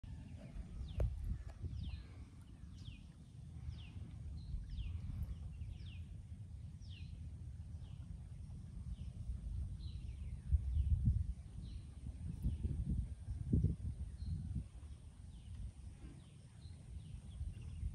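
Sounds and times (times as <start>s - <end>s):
birds chirping: 0.0s - 17.9s
low unsteady rumble: 0.0s - 17.9s.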